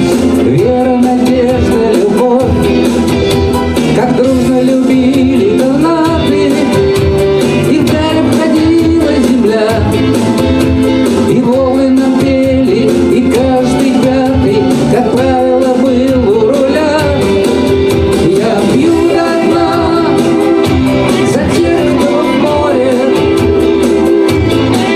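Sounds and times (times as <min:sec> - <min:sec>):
man singing rock: 0:00.0 - 0:24.9
rock band playing: 0:00.0 - 0:24.9.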